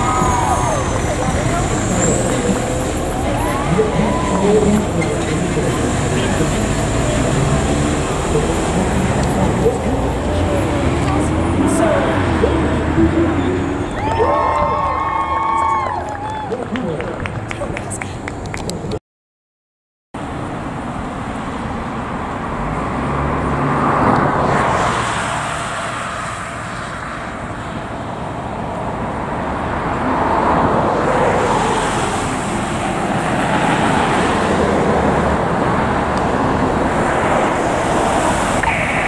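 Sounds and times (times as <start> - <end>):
engine and tyre noise: 0.0 - 19.0, 20.2 - 39.0
passing road traffic: 0.0 - 19.0, 20.2 - 39.0.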